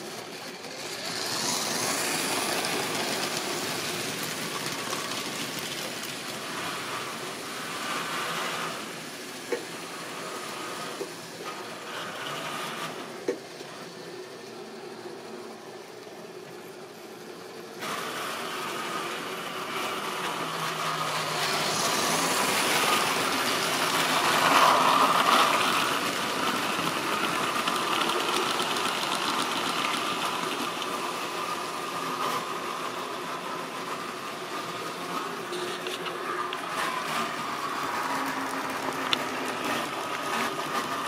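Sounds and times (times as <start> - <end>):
model train wheels rumbling: 0.0 - 41.0.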